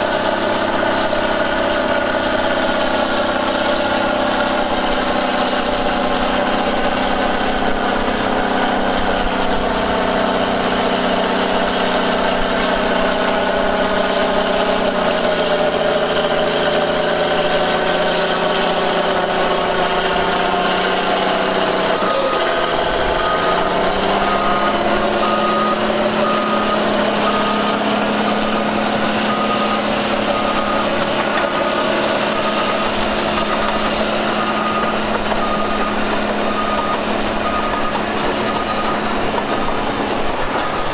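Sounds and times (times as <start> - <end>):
diesel engine running: 0.0 - 40.9
reversing alarm beeping: 0.0 - 40.9.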